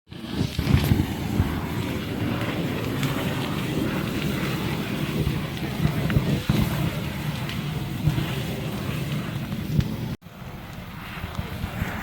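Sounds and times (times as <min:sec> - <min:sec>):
house fire roaring: 0:00.1 - 0:12.0
wind buffeting microphone: 0:00.1 - 0:12.0.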